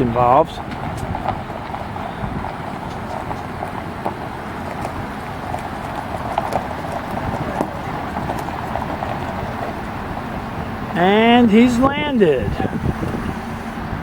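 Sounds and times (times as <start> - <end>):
vehicle rumble: 0.0 - 14.0
wagons clacking and rattling: 0.0 - 14.0.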